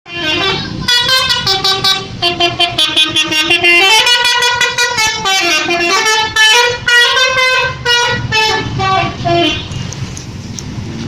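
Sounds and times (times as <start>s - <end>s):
bus musical horn melody: 0.1s - 9.9s.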